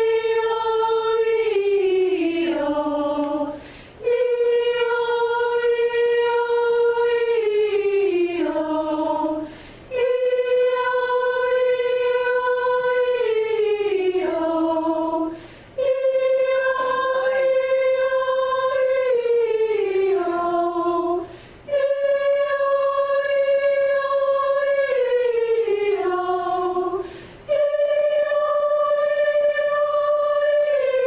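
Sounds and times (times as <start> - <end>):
choir singing in unison: 0.0 - 31.0.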